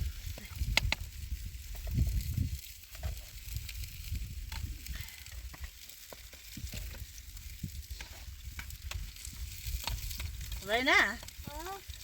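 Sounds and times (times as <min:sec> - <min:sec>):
sizzling hiss with crackles: 0:00.0 - 0:12.0.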